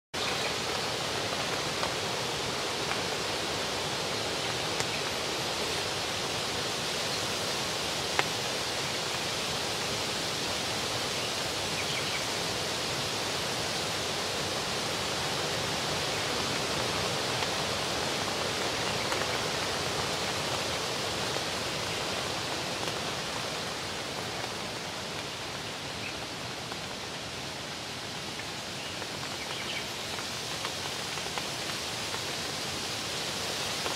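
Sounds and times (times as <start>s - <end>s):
breeze through leaves: 0.2s - 33.9s.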